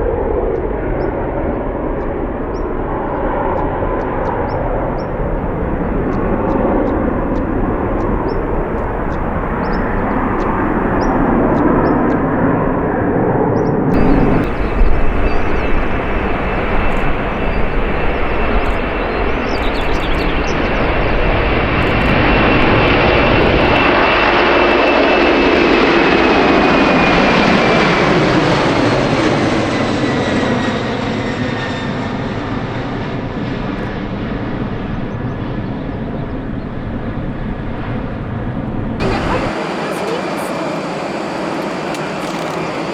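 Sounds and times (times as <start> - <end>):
aircraft engines passing with whine: 0.0 - 42.9.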